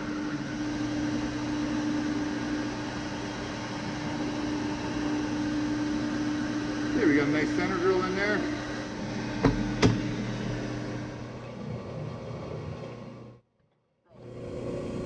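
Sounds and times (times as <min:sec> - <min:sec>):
lathe motor hum: 0:00.0 - 0:13.4, 0:14.1 - 0:15.0.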